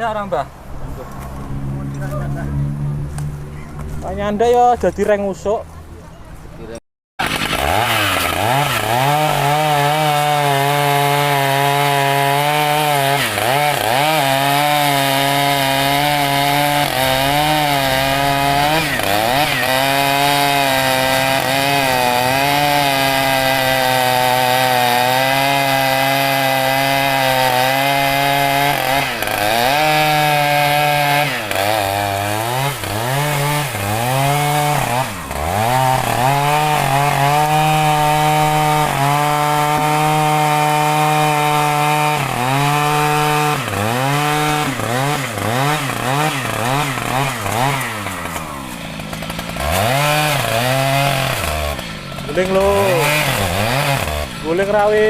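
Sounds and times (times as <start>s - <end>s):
chainsaw cutting wood: 7.2s - 55.0s.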